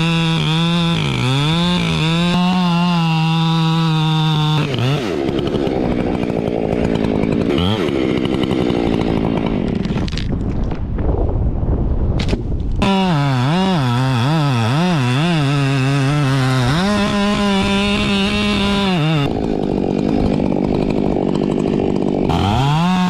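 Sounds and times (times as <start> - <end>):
chainsaw cutting tree: 0.0 - 10.9, 12.2 - 23.0.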